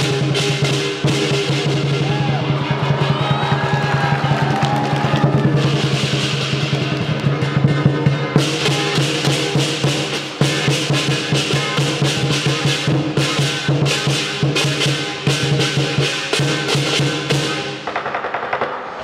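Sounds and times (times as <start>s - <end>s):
drum fast rhythm: 0.0s - 18.8s.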